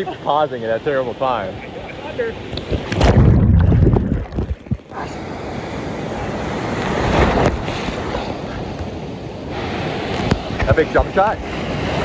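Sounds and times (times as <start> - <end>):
ocean surf churning: 0.0 - 12.0
wind buffeting microphone: 2.1 - 12.0.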